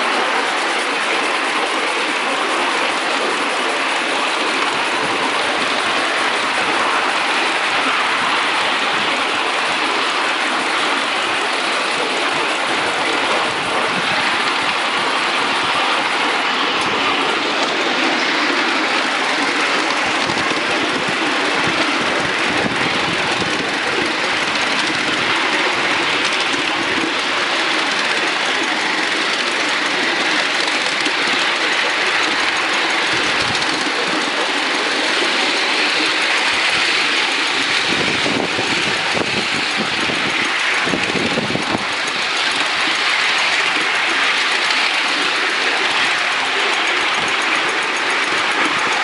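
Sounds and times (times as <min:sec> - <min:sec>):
steam locomotive hissing: 0:00.0 - 0:49.0.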